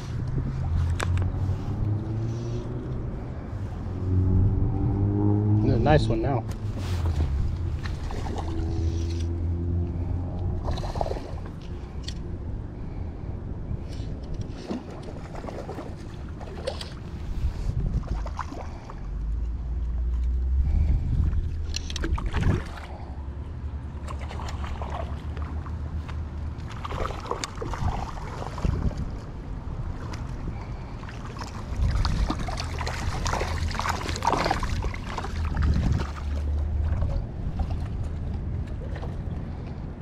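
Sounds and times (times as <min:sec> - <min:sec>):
fishing line and rod rustling: 0:00.0 - 0:04.4, 0:06.3 - 0:12.4, 0:13.8 - 0:23.2, 0:23.9 - 0:39.8
wind rumbling on microphone: 0:00.0 - 0:40.0.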